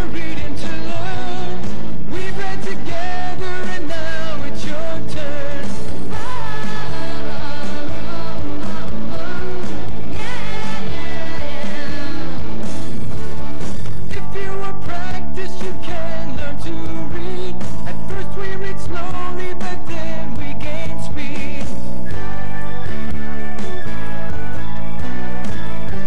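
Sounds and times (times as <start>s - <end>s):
rock and roll song with singing: 0.0s - 26.0s.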